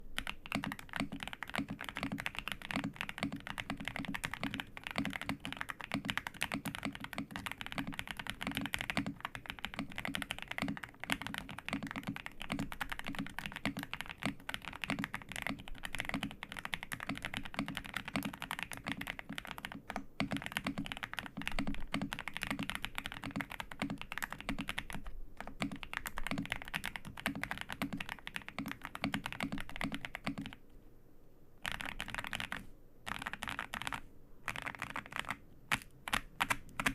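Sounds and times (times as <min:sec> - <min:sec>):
mechanical keyboard typing: 0:00.2 - 0:30.6, 0:31.6 - 0:36.9.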